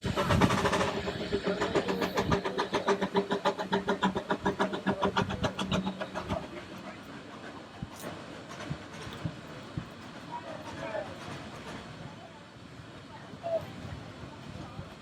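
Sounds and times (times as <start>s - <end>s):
steam locomotive exhaust beats: 0.0s - 13.1s.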